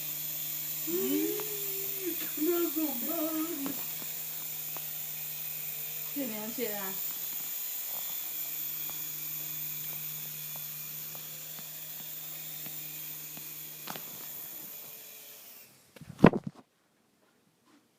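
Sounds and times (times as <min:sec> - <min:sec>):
toy helicopter motor buzzing: 0:00.0 - 0:15.9.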